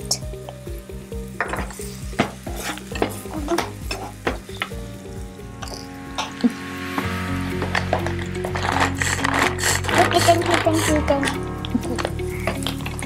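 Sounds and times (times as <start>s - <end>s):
onion and garlic sizzling in oil: 0.0s - 13.0s
utensil scraping a pan: 1.4s - 4.6s, 5.7s - 13.0s.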